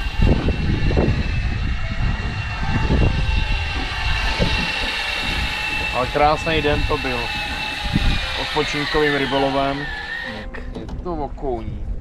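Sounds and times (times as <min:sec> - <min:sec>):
thin high whine: 0:00.0 - 0:10.5
boat engine rumbling: 0:00.0 - 0:12.0
wind on microphone: 0:00.0 - 0:12.0.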